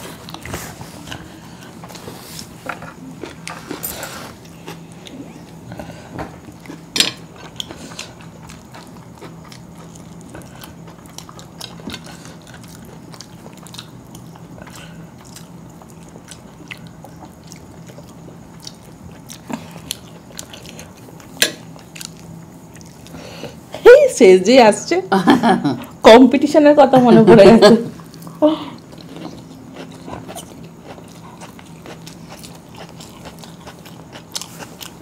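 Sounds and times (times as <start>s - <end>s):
people chewing: 0.0s - 23.7s, 27.9s - 35.0s
steady low hum: 0.0s - 35.0s.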